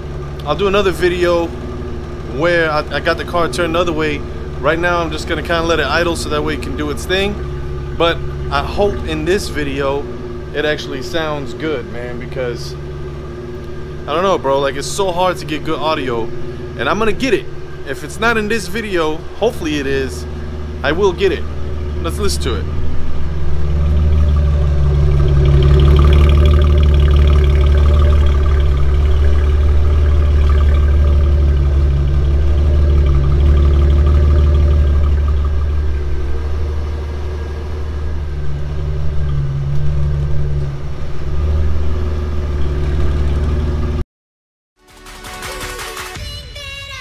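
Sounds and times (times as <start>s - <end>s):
car exhaust idling loudly: 0.0s - 44.0s.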